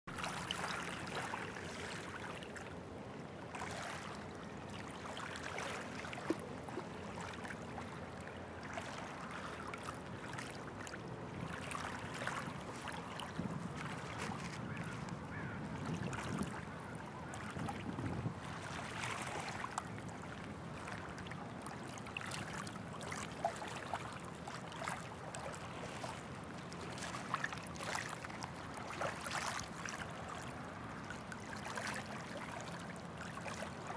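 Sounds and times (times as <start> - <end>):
light wind: 0.1 - 33.9
small waves lapping: 0.1 - 33.9.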